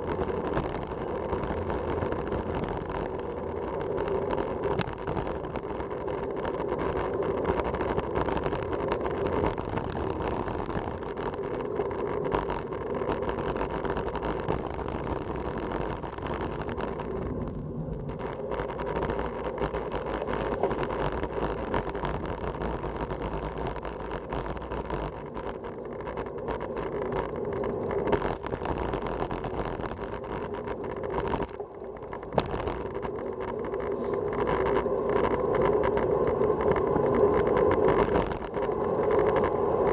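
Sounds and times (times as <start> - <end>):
rushing wind noise: 0.0 - 39.9.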